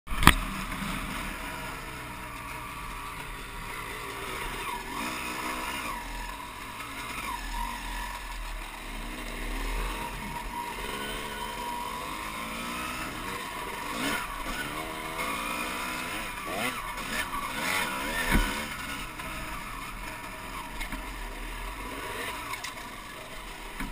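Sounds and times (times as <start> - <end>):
dirt bike engine revving: 0.1 - 23.9.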